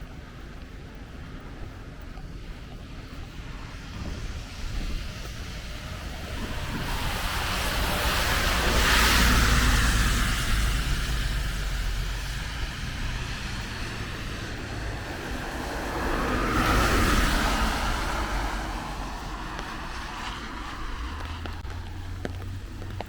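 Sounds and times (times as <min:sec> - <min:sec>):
tyre hiss on wet road: 0:02.3 - 0:23.0.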